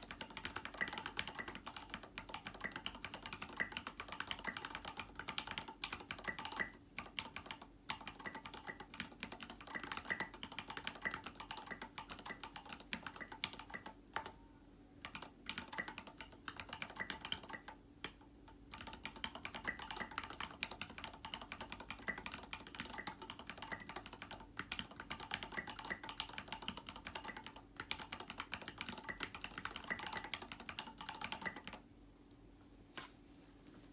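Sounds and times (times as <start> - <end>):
mechanical keyboard typing: 0.0 - 14.4, 15.0 - 31.8.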